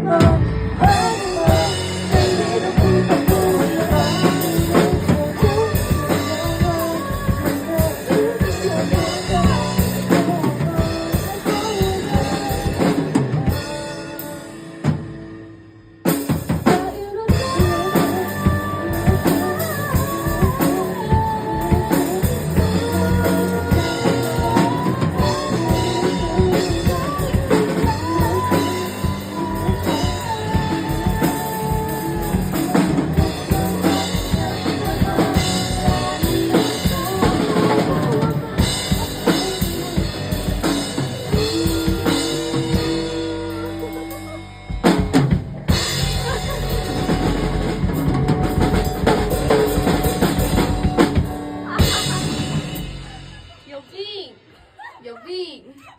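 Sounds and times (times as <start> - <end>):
person singing: 0.0 - 15.0, 16.5 - 54.2
drum kit kick and snare: 0.0 - 15.4, 16.1 - 44.2, 44.8 - 53.6
band playing: 0.0 - 54.6.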